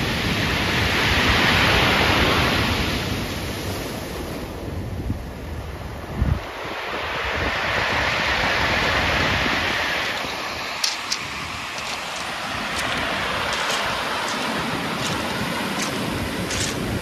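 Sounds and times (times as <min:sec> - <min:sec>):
surf washing up pebble beach: 0:00.0 - 0:04.8, 0:06.4 - 0:17.0.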